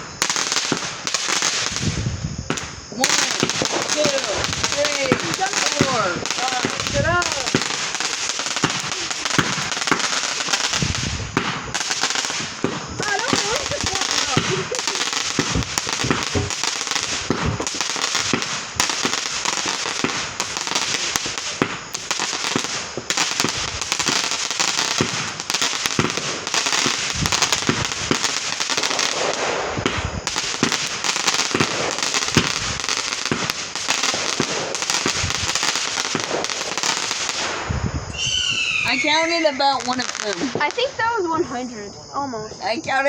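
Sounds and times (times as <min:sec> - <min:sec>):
fireworks launching and banging: 0:00.0 - 0:41.8
fireworks crackling: 0:00.0 - 0:43.0.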